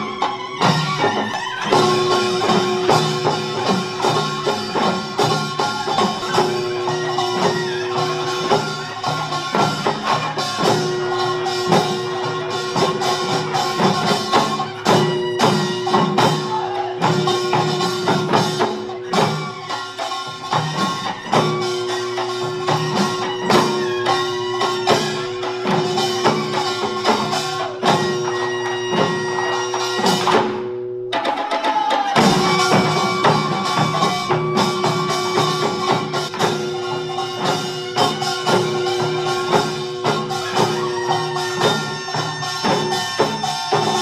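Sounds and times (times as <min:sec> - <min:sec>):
fast drum and percussion strokes: 0:00.0 - 0:44.0.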